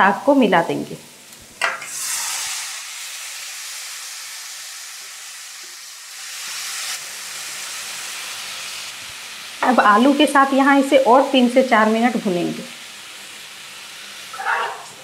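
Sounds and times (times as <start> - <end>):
oil sizzling in a pan: 1.0 - 15.0.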